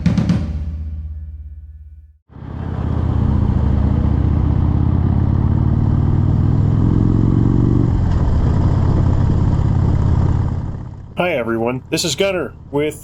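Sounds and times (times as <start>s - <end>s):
motorcycle engine running: 2.3s - 13.0s.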